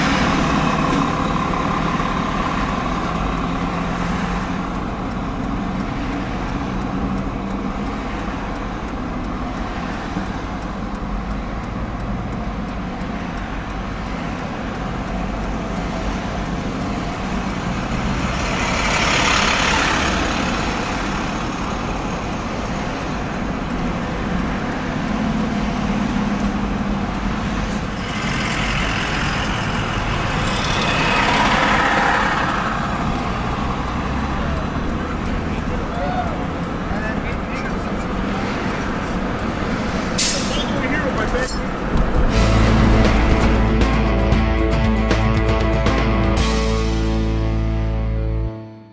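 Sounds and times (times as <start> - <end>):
traffic passing: 0.0 - 48.5
heavy vehicle engines rumbling: 0.0 - 48.6.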